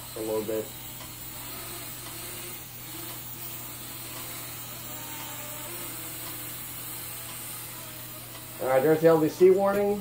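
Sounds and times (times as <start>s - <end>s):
quadcopter propellers buzzing: 0.0s - 10.0s.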